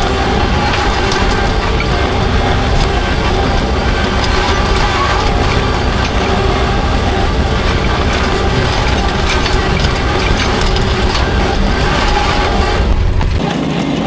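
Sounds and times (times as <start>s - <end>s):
crunching of asphalt millings: 0.0s - 14.0s
small earthmover engine running: 0.0s - 14.0s.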